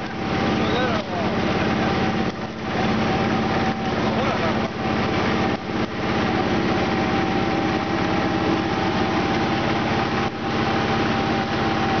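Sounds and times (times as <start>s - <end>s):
pellet mill motor humming: 0.0s - 12.0s
steady machine whine: 0.0s - 12.0s.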